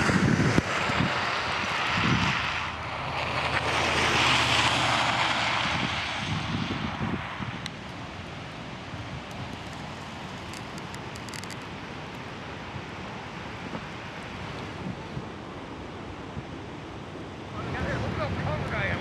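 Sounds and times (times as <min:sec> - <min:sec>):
wind noise on microphone: 0:00.0 - 0:12.2, 0:12.9 - 0:15.6, 0:17.4 - 0:19.0
snowstorm wind blowing: 0:00.0 - 0:19.0.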